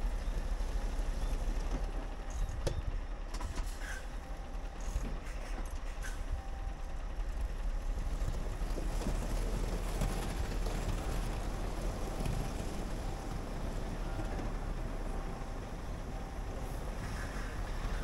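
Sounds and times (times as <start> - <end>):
diesel truck engine rumbling: 0.0 - 18.0.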